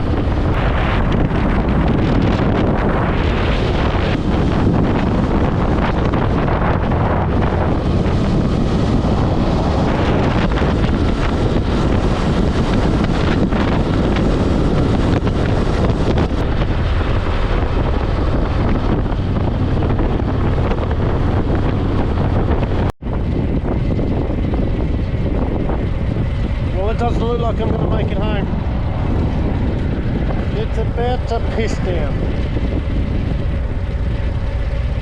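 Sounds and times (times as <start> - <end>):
motorcycle engine cruising: 0.0 - 35.0
wind buffeting microphone: 0.0 - 35.0.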